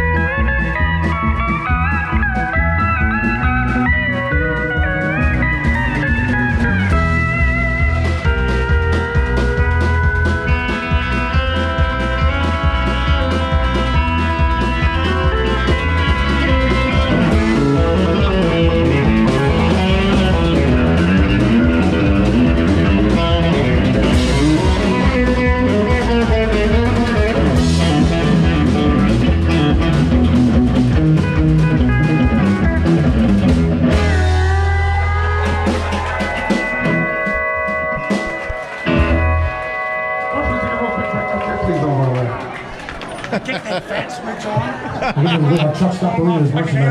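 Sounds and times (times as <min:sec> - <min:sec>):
pedal steel guitar: 0:00.0 - 0:43.2
electric guitar: 0:00.0 - 0:43.4
bass guitar: 0:00.0 - 0:43.9
drums: 0:00.0 - 0:46.9.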